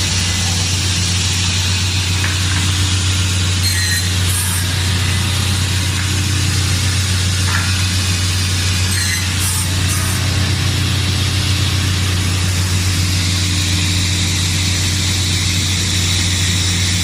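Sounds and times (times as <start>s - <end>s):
panel saw motor drone: 0.0s - 17.0s.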